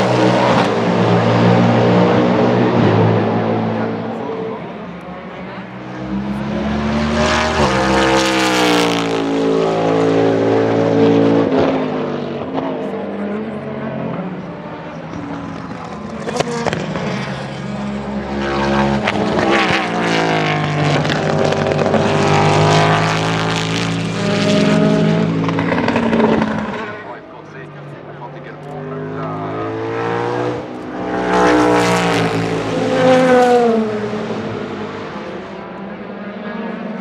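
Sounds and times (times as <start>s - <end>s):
racing engine accelerating: 0.0s - 37.0s.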